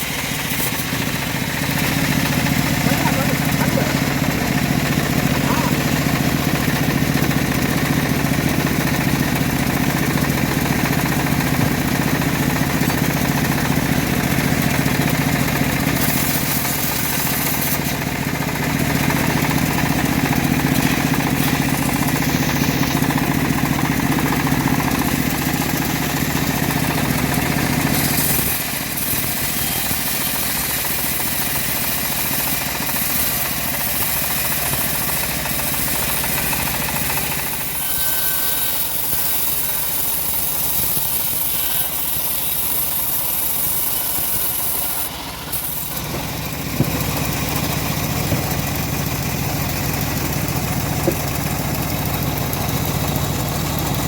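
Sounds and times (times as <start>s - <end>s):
bandsaw mill engine humming: 0.0s - 54.0s.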